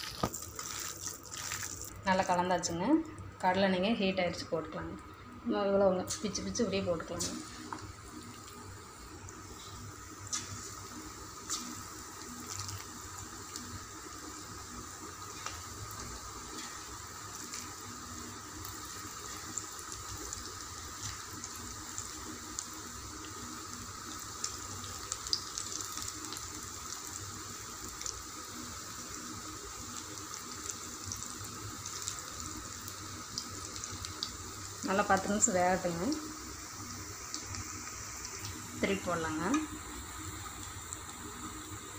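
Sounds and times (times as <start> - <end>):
fritters deep-frying with crackles: 0.0 - 41.9.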